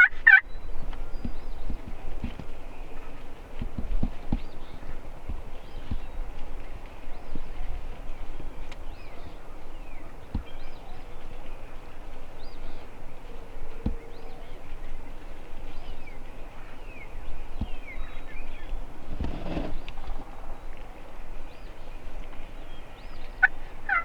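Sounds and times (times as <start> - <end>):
small birds chirping: 0.0 - 24.0
dull low thumps: 0.4 - 20.4.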